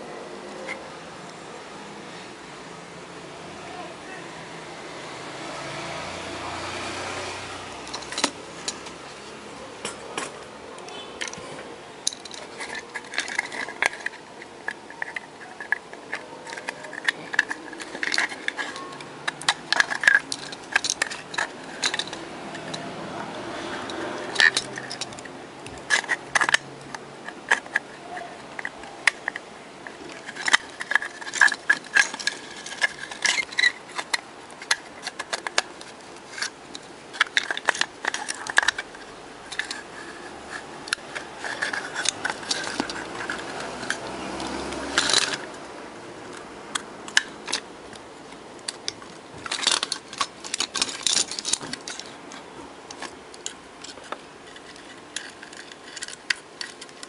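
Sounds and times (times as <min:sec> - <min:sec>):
rasping scrape: 0:05.4 - 0:57.0.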